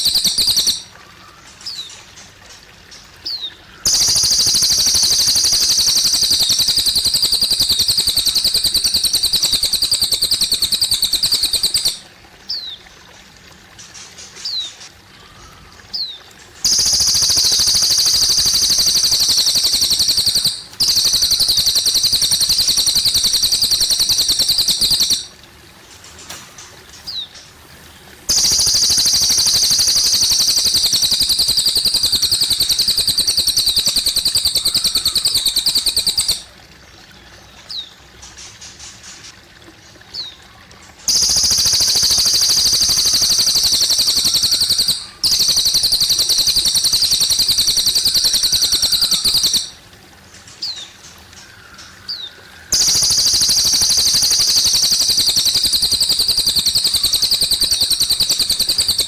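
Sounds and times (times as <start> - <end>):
songbird rapid high trills: 0.0 - 2.0, 3.3 - 12.6, 13.8 - 25.4, 26.0 - 36.6, 41.1 - 49.8, 51.4 - 59.0
faint bird chirps: 0.0 - 12.8, 13.8 - 25.4, 28.3 - 36.6, 40.1 - 49.8, 50.4 - 59.0
trickling water: 0.0 - 59.0.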